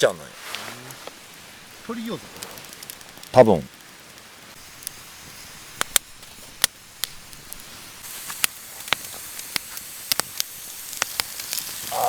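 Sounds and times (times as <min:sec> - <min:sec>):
food sizzling in a pan: 0:00.4 - 0:12.0.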